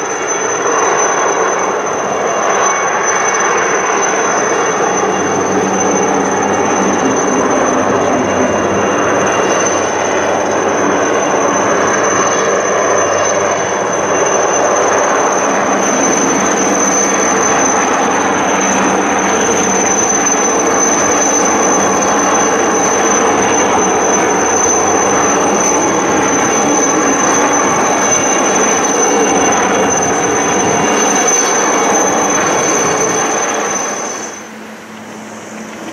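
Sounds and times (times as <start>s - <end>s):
helicopter rotor noise: 0.0s - 35.9s
helicopter turbine whine: 0.0s - 35.9s.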